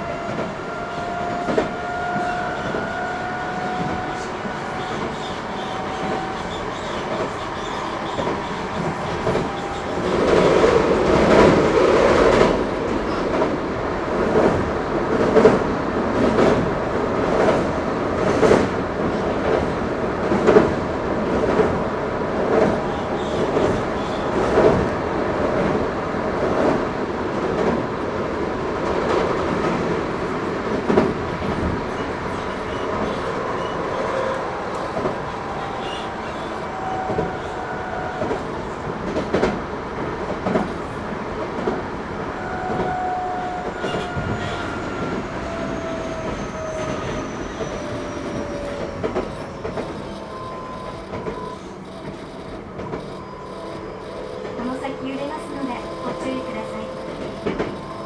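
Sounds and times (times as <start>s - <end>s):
subway train running noise: 0.0s - 58.0s.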